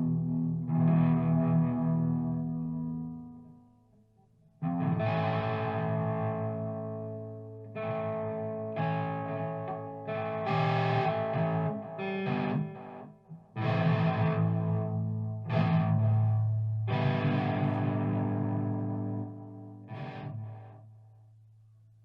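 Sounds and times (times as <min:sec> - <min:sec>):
distorted electric guitar chords: 0:00.0 - 0:03.3, 0:04.6 - 0:20.7.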